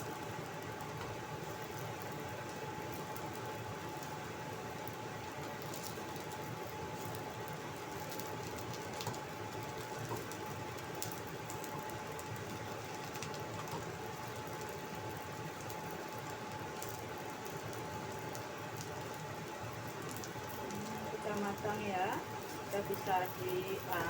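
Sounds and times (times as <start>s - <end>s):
fritters sizzling in oil: 0.0s - 24.0s.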